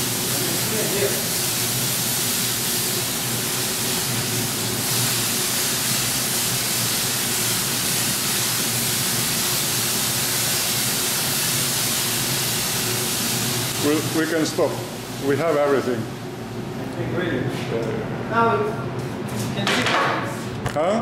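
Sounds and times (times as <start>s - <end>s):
extraction fan rushing air: 0.0s - 19.6s.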